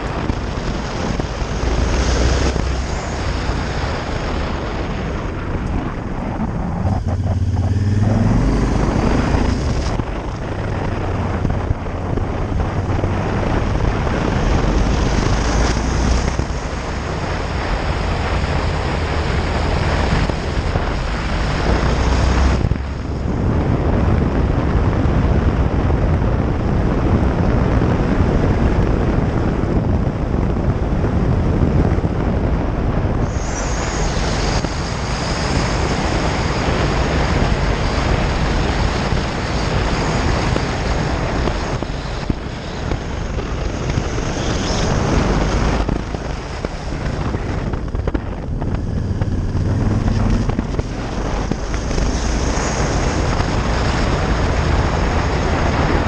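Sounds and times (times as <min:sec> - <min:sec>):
motorcycle engine running: 0:00.0 - 0:26.8, 0:31.2 - 0:56.0
wind rushing on microphone: 0:00.0 - 0:56.0.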